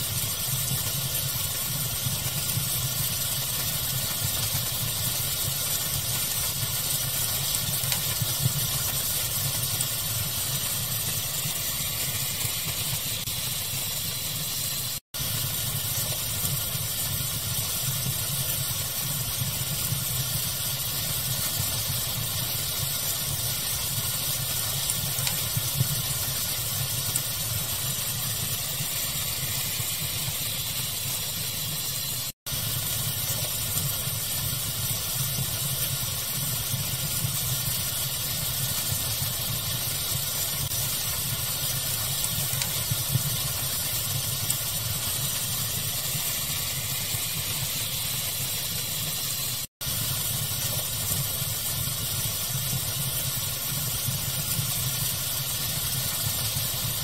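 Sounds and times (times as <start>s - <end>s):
fire crackling: 0.0s - 57.0s
pink noise hiss: 0.0s - 57.0s.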